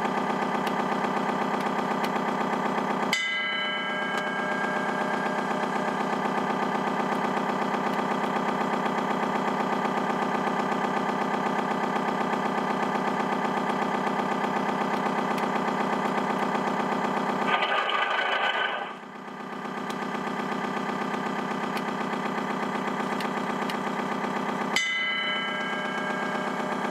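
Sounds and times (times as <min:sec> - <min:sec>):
diesel boat engine idling: 0:00.0 - 0:26.9.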